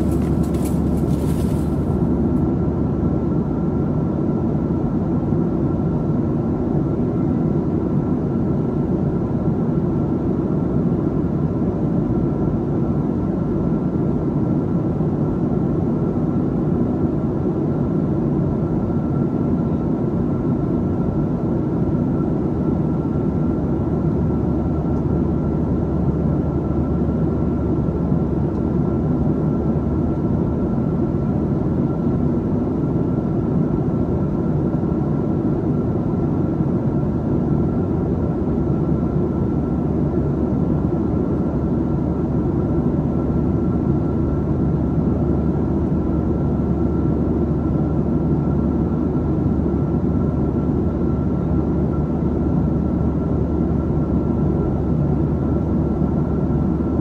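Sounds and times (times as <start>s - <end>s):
airplane cabin airflow and engines: 0.0s - 57.0s.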